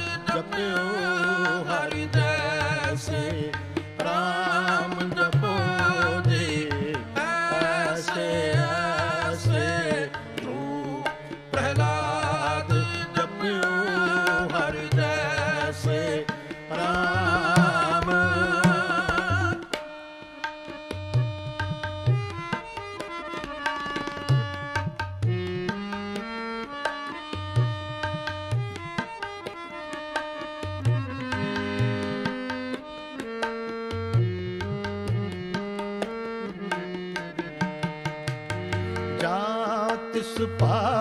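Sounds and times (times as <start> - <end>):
harmonium melody: 0.0 - 41.0
tabla rhythm: 0.0 - 41.0.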